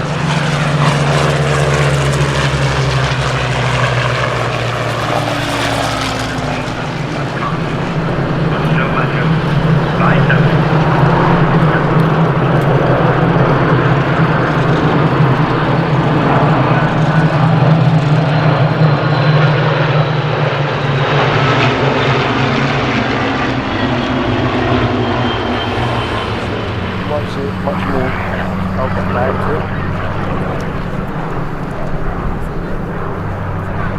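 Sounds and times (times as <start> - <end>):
propeller planes droning overhead: 0.0 - 33.9.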